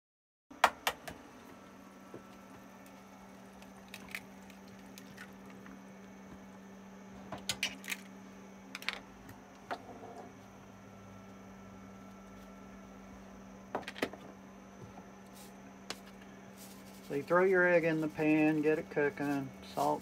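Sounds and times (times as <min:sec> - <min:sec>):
steady low hum: 0:00.6 - 0:20.0.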